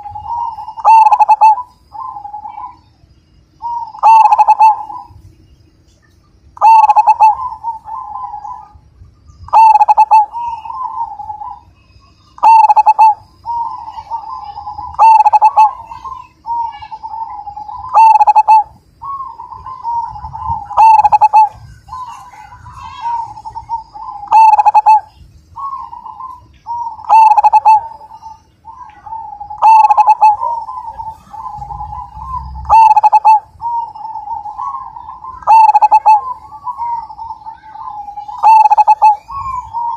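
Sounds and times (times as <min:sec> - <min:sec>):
dove cooing song: 0:00.0 - 0:05.4, 0:06.5 - 0:39.9.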